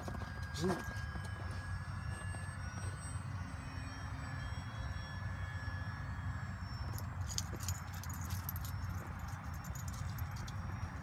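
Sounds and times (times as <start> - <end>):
model plane motor whine: 0.0 - 11.0.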